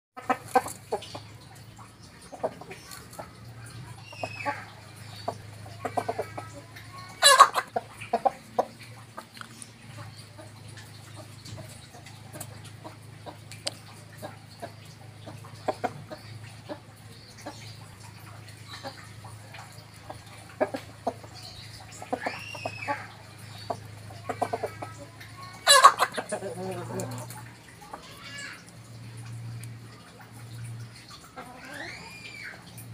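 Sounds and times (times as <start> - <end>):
chickens clucking: 0.2 - 32.9.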